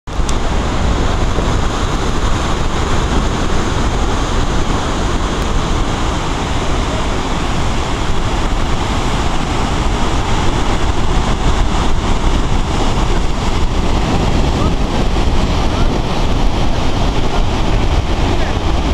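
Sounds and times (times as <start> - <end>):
heavy surf on rocky shore: 0.1 - 18.9
wind rumbling on microphone: 0.1 - 18.9.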